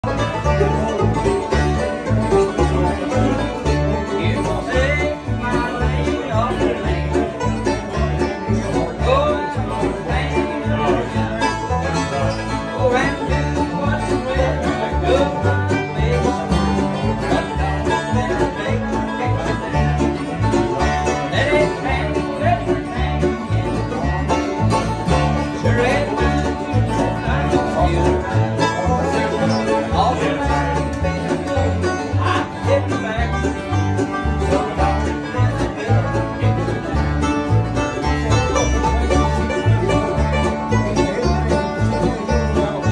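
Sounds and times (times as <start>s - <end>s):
guitars: 0.0s - 42.9s
mandolin: 0.0s - 42.9s
picked banjo: 0.0s - 42.9s
upright bass: 0.0s - 42.9s.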